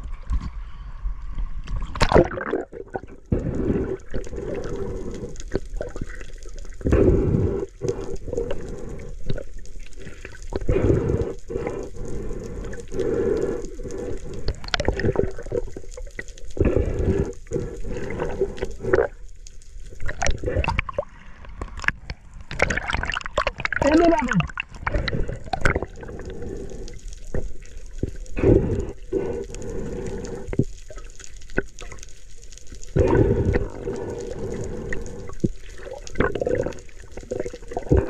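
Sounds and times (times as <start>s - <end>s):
muffled underwater sloshing: 0.0s - 38.0s
splashes and bubbling: 1.6s - 38.0s.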